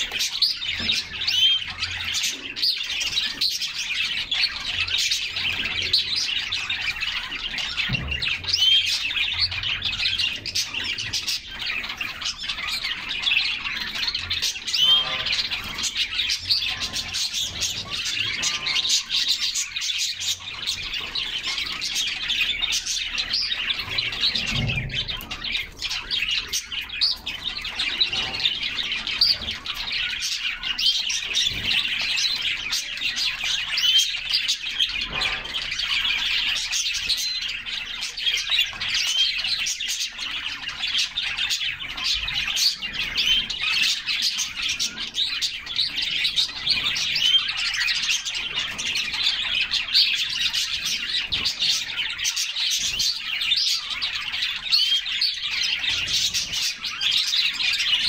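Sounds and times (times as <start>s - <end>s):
canaries singing: 0.0s - 58.0s.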